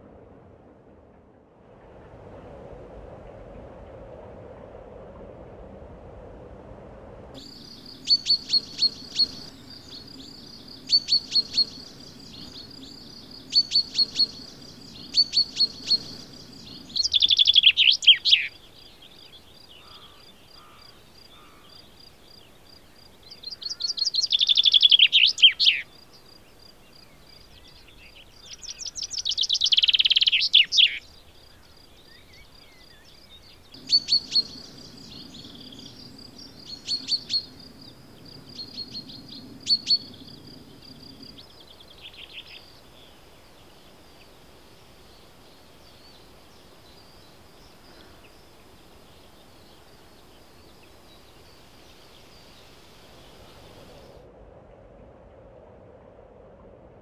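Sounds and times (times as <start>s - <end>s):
chaffinch song: 7.4s - 54.2s.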